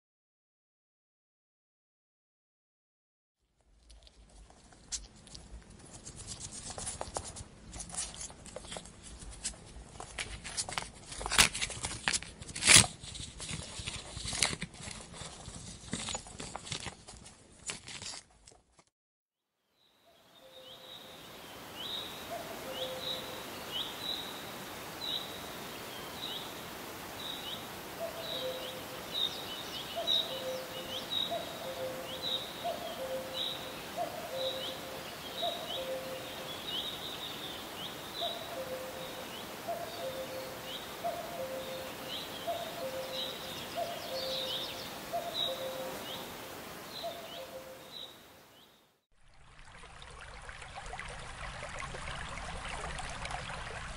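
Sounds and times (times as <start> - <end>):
outdoor background hiss: 3.5 - 17.7, 19.5 - 53.9.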